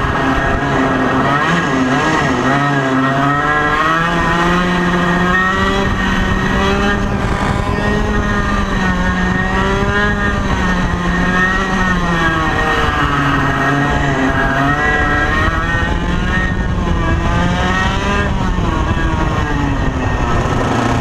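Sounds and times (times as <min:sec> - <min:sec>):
kart engine at high revs: 0:00.0 - 0:21.0.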